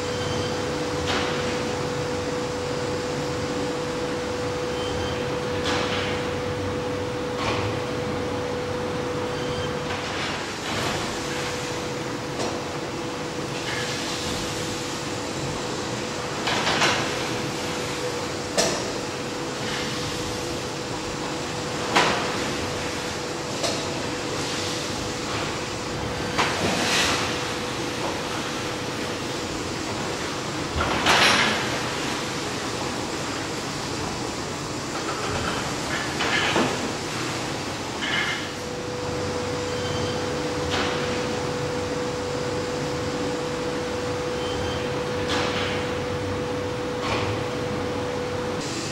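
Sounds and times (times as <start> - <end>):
mechanical hum with whine: 0.0 - 48.9.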